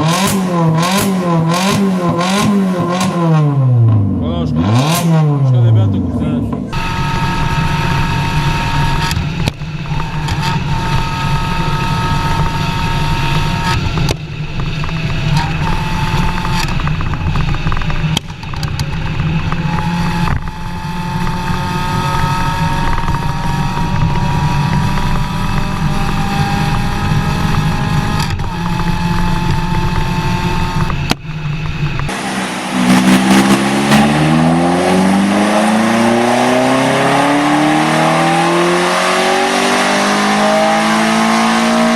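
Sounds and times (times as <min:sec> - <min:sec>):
car engine revving under load: 0:00.0 - 0:41.9.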